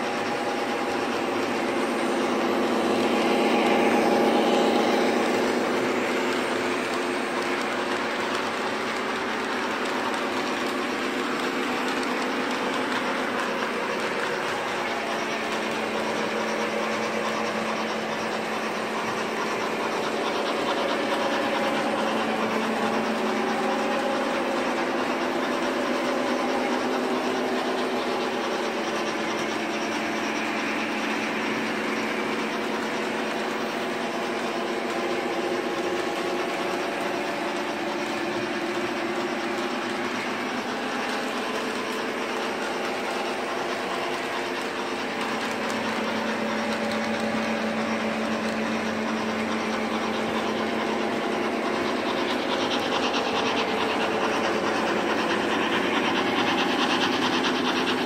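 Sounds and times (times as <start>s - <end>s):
model train motors whirring: 0.0s - 58.0s
wheels clicking on rails: 0.0s - 58.0s.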